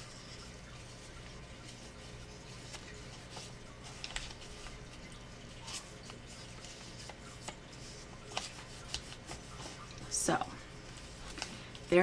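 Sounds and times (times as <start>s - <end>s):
paper crackling and creasing: 0.8s - 12.0s.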